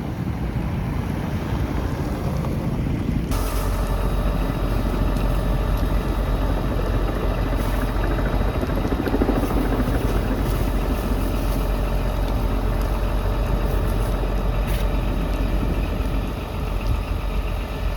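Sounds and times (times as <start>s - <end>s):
engine running: 0.0s - 17.9s.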